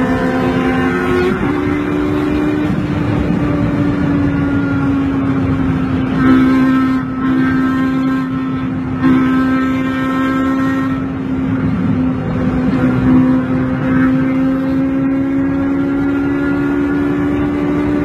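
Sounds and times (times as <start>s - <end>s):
sports car engine running: 0.0s - 18.0s.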